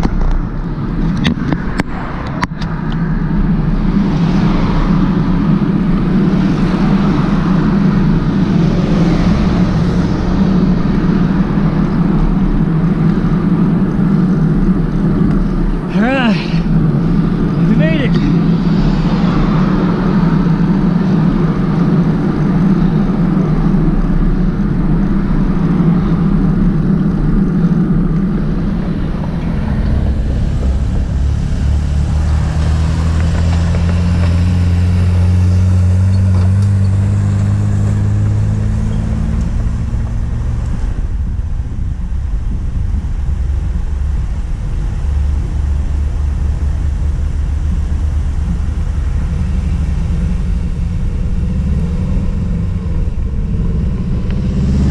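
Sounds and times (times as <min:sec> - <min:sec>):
road traffic rumble: 0:00.0 - 0:54.9
vehicle engine rising in pitch: 0:00.0 - 0:54.9.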